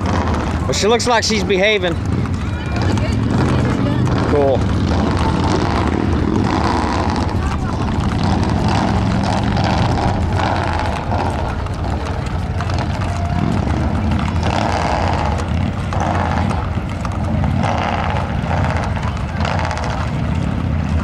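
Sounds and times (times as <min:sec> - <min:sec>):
low engine drone: 0:02.0 - 0:21.0.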